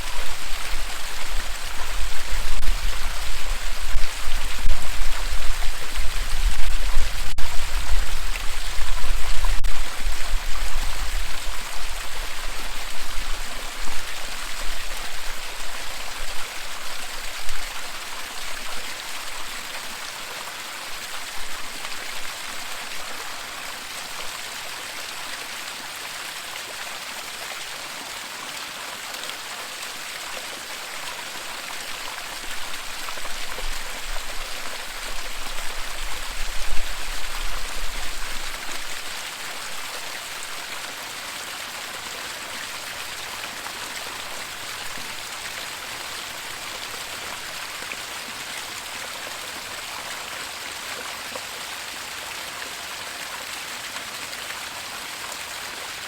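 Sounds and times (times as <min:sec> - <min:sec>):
waterfall rushing: 0:00.0 - 0:50.8.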